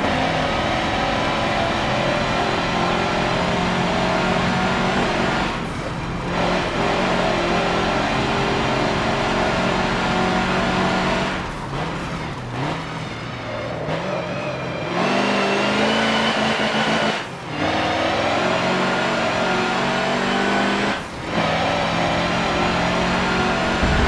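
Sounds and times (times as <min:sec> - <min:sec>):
truck diesel engine running hard: 0:00.0 - 0:24.0.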